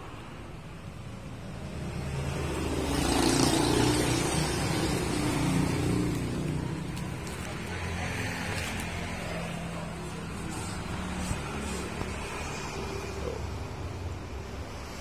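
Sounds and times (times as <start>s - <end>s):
vehicle engine passing by: 1.6s - 13.8s.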